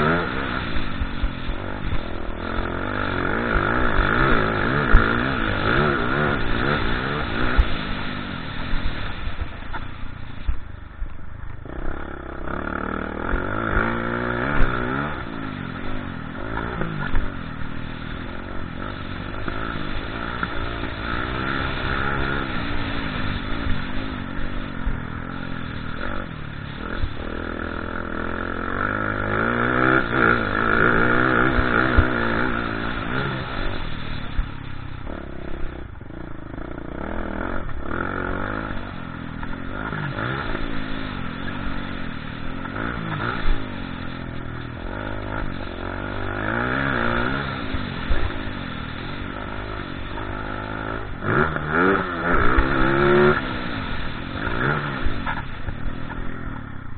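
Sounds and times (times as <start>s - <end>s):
motocross bike engine revving: 0.0s - 10.6s, 11.4s - 56.9s.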